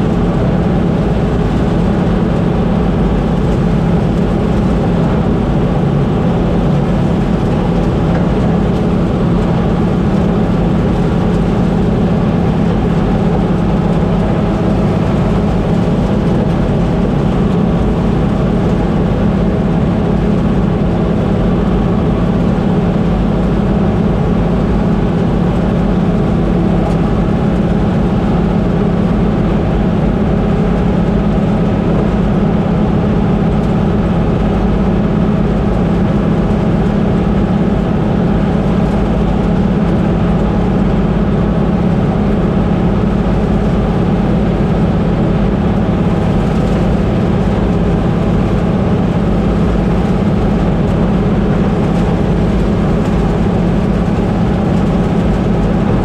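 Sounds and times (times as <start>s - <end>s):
combine harvester engine humming: 0.0s - 56.0s.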